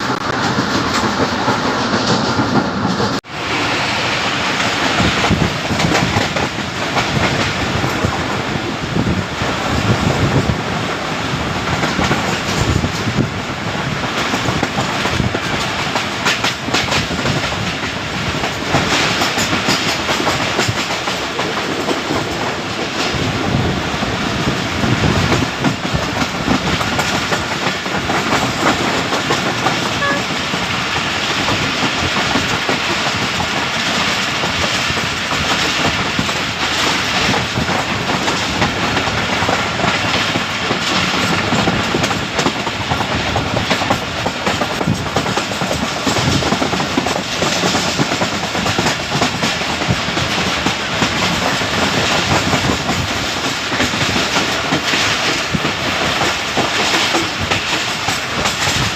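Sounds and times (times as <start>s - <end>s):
clickety-clack of wheels: 0.0s - 3.3s, 4.6s - 58.9s
train rumbling on track: 0.0s - 58.9s.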